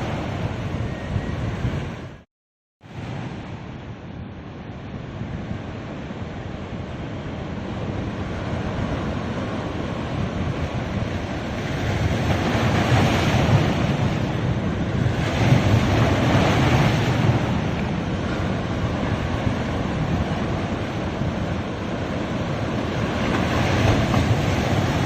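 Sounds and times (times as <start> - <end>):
wind buffeting microphone: 0.0 - 2.2, 3.0 - 25.0
ocean waves breaking on beach: 2.8 - 25.0.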